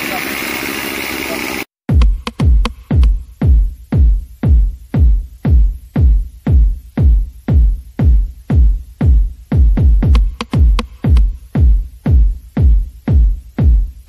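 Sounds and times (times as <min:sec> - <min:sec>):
electronic dance music: 0:00.0 - 0:14.0
hi-hat clicks: 0:01.9 - 0:14.0
kick drum: 0:01.9 - 0:14.0.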